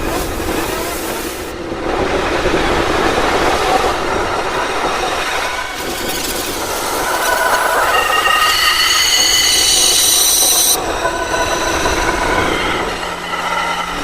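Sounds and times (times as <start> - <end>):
loud metallic drone: 2.7 - 14.0.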